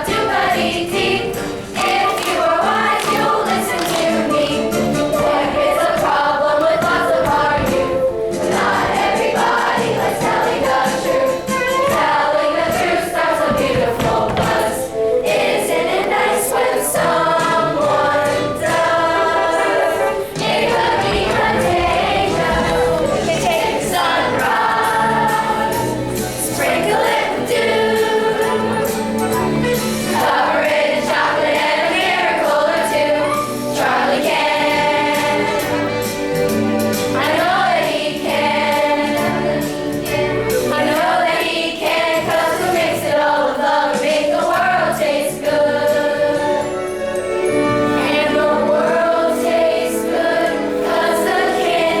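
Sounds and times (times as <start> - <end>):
choir singing: 0.0 - 52.0
musical accompaniment: 0.0 - 52.0.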